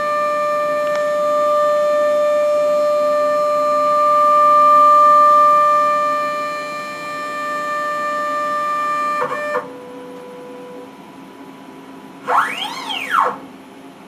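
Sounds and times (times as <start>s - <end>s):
cnc router motors whining: 0.0s - 13.8s.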